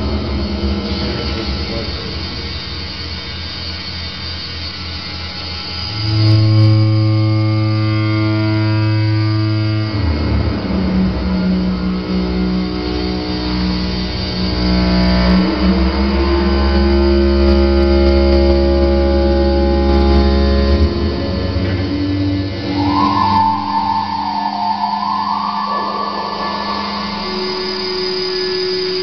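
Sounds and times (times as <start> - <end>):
modular synthesizer drone: 0.0 - 29.0.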